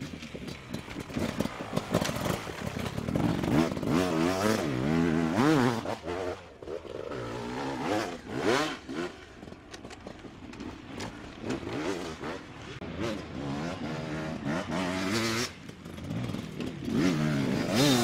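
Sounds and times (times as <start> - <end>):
motorcycle engine revving: 0.0 - 9.7, 10.6 - 18.0.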